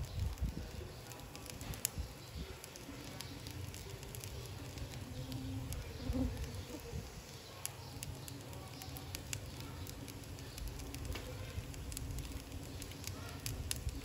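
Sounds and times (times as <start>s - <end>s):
fried rice sizzling in a pan: 0.0s - 14.0s.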